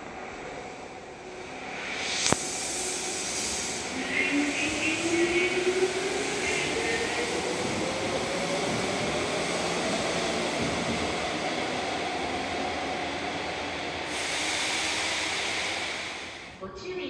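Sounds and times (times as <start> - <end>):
train running noise echoing: 0.0 - 17.0.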